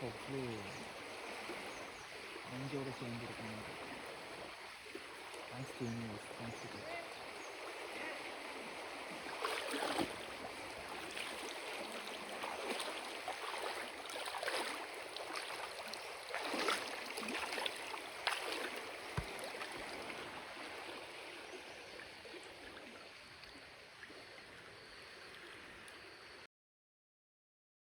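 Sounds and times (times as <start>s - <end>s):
stream flowing and splashing: 0.0s - 26.5s.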